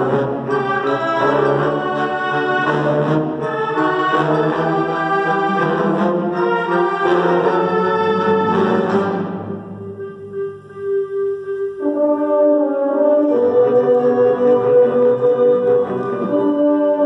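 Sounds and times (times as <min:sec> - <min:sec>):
wind orchestra playing chords: 0:00.0 - 0:17.0.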